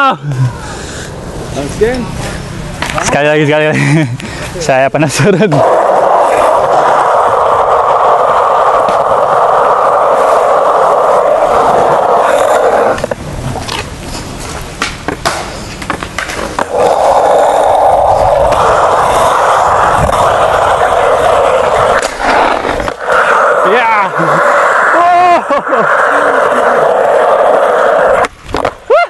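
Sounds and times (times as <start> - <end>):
skateboard bearings grinding on concrete: 4.9 - 28.9.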